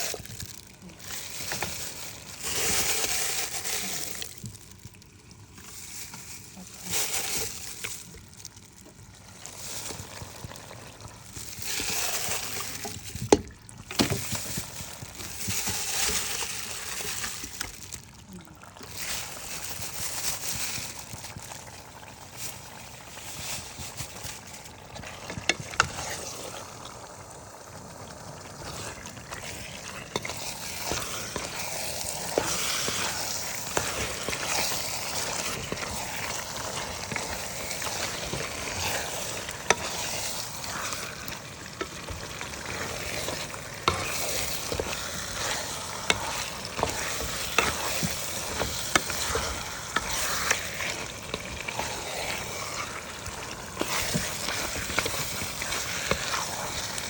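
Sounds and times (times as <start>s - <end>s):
curry sizzling in a pan: 0.0s - 57.0s.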